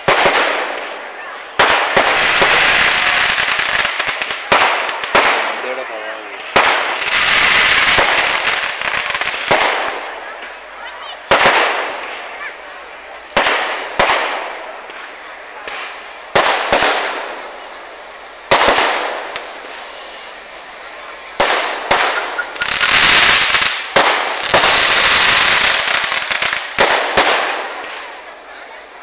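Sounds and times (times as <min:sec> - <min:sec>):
fireworks bangs: 0:00.0 - 0:28.8
rapid crackling fireworks: 0:00.0 - 0:29.0.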